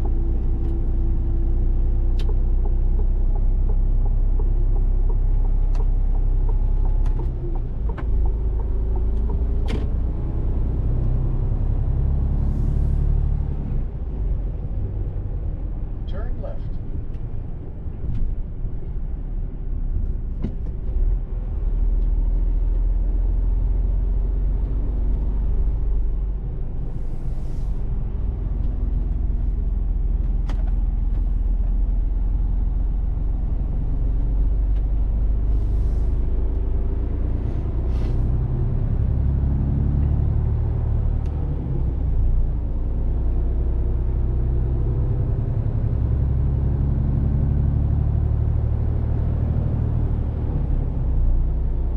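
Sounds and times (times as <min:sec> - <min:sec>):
truck diesel engine rumbling: 0:00.0 - 0:51.9.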